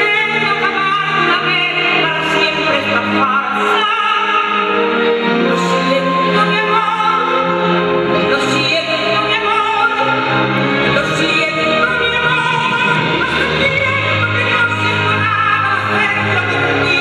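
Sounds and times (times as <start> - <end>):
woman singing into microphone: 0.0 - 4.8, 5.4 - 7.6, 8.2 - 17.0
musical accompaniment: 0.0 - 17.0.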